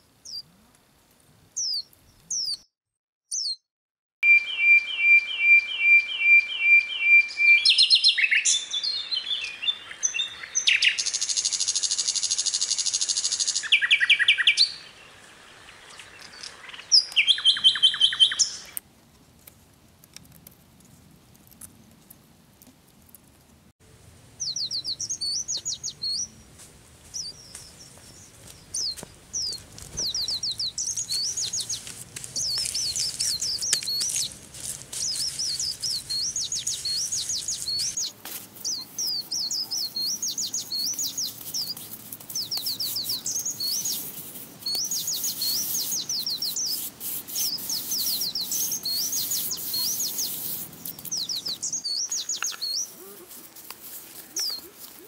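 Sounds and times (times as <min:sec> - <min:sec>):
songbird chirping: 0:01.6 - 0:02.7, 0:03.3 - 0:03.6, 0:04.2 - 0:18.8, 0:24.3 - 0:55.0.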